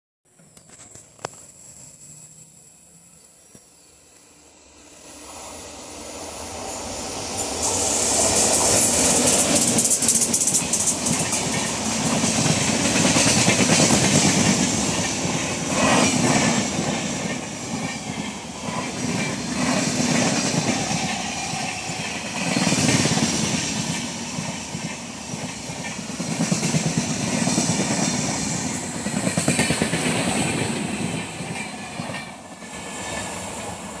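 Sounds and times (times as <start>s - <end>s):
train wheels clattering over rails: 6.7s - 33.9s.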